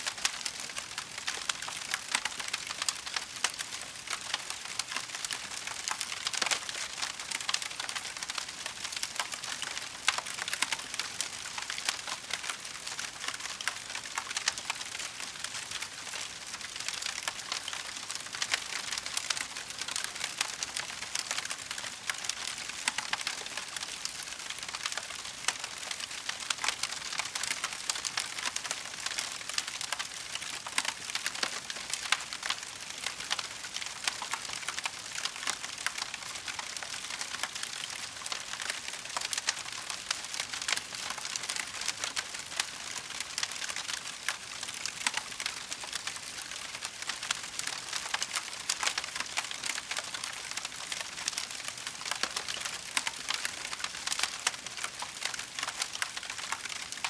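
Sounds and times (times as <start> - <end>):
wood fire crackling: 0.2 - 57.0.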